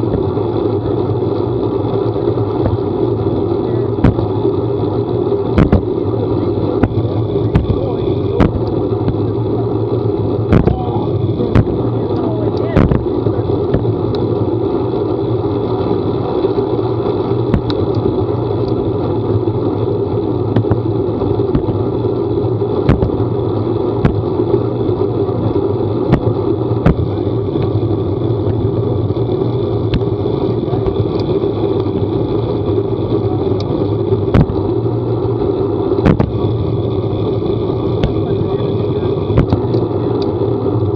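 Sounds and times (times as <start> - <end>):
road noise: 0.0 - 40.9
vehicle engine drone: 0.0 - 40.9.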